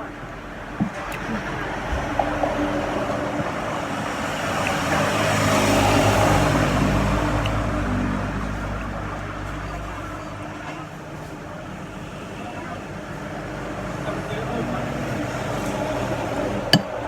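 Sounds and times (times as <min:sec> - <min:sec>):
vehicle passing by: 0:00.5 - 0:10.5, 0:13.0 - 0:17.0.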